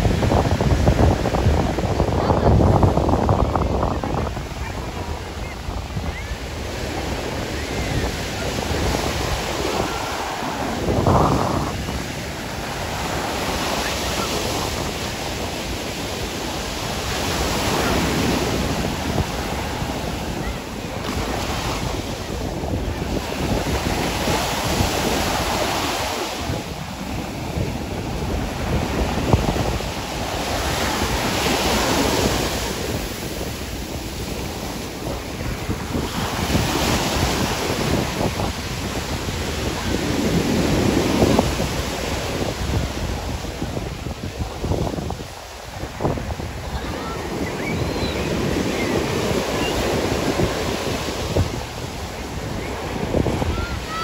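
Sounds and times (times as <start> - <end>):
ocean surf breaking: 0.0 - 54.0
wind buffeting microphone: 0.0 - 54.0.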